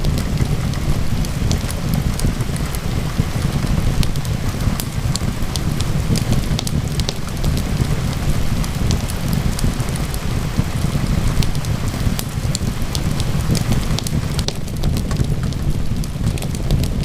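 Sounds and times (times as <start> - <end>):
deep rumbling undertone: 0.0 - 17.0
steady rain: 0.0 - 17.0
wood fire crackling: 0.0 - 17.0.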